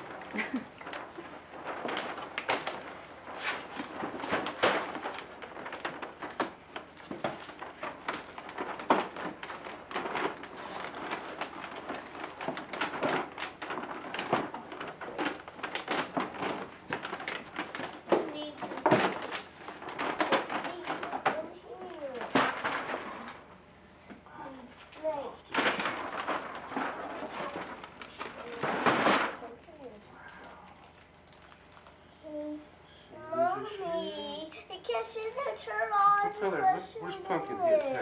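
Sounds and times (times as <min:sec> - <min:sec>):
paper rustling and crinkling: 0:00.0 - 0:23.5, 0:24.6 - 0:32.5, 0:33.3 - 0:38.0.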